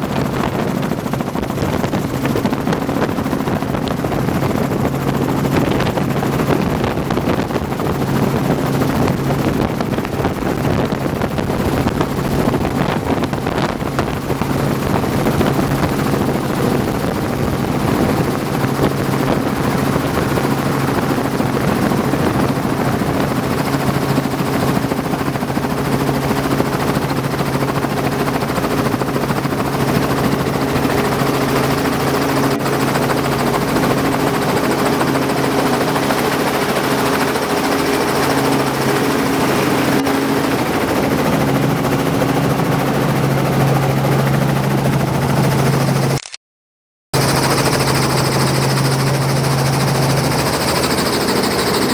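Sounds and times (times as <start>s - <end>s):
helicopter rotor and engine drone: 0.0s - 46.4s, 47.1s - 51.9s.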